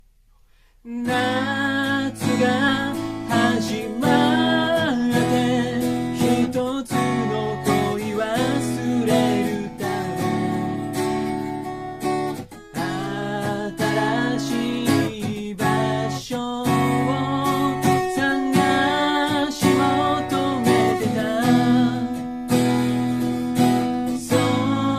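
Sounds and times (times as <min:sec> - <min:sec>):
person singing: 0:00.8 - 0:11.0, 0:12.8 - 0:22.8, 0:24.0 - 0:24.9
strummed acoustic guitar: 0:00.9 - 0:24.9.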